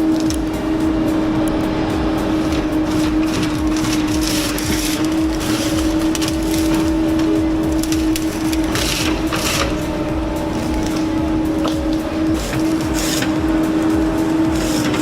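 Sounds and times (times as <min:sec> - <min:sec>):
heavy machine engine running: 0:00.0 - 0:15.0
hissing and crackling bursts: 0:00.0 - 0:15.0.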